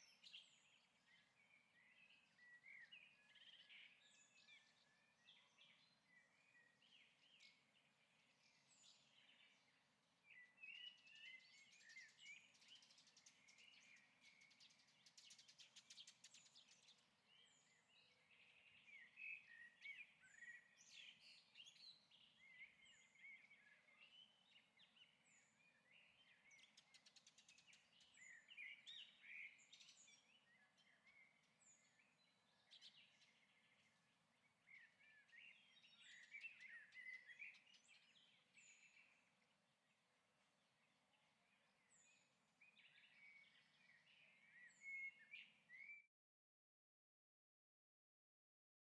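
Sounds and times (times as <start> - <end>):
faint birdsong: 0.0 - 46.1.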